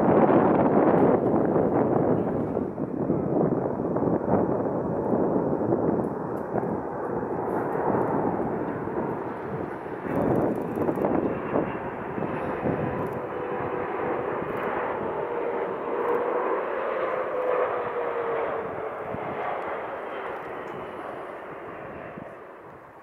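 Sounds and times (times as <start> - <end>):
jet engine rush and whine: 0.0 - 23.0.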